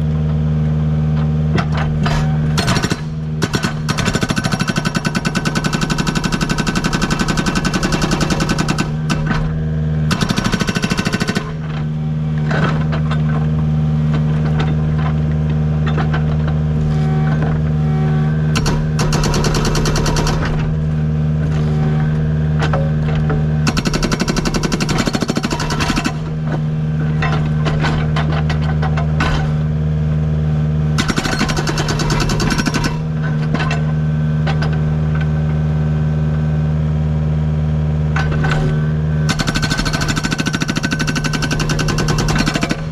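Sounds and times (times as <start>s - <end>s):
diesel engine running: 0.0s - 42.9s
hydraulic breaker pounding rock: 1.2s - 15.2s, 15.8s - 29.8s, 30.9s - 35.3s, 38.2s - 42.9s.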